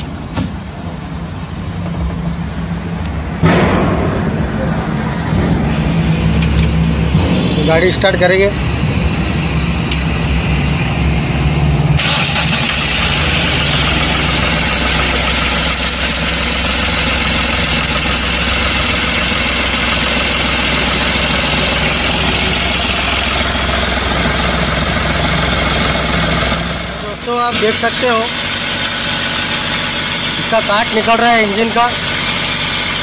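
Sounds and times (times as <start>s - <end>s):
truck engine idling: 0.0s - 33.0s
truck engine cranking: 4.3s - 33.0s.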